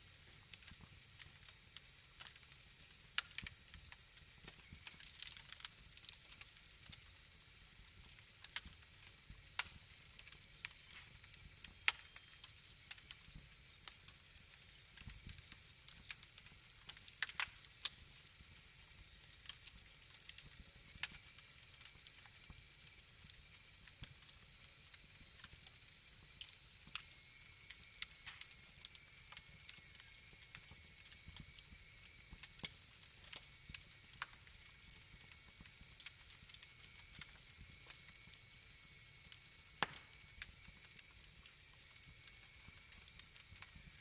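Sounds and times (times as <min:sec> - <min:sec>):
faint steady hiss: 0:00.0 - 0:44.0
wood fire crackling: 0:00.0 - 0:44.0.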